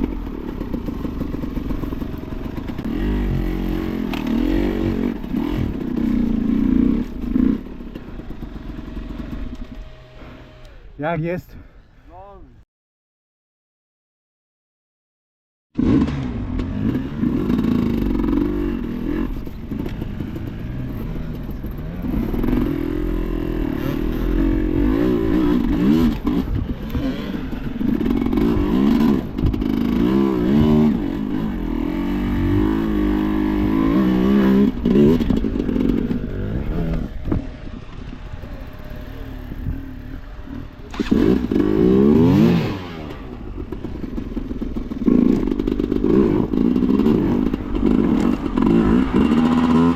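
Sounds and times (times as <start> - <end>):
motorcycle engine revving: 0.0 - 11.0, 15.8 - 49.9.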